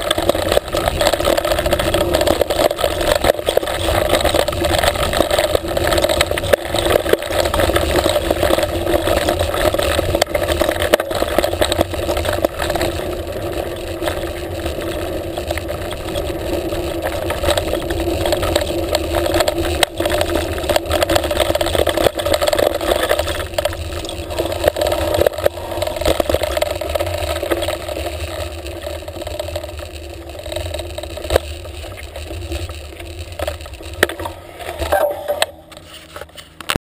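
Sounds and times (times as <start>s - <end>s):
bike tyres rumbling on dirt: 0.0s - 36.1s.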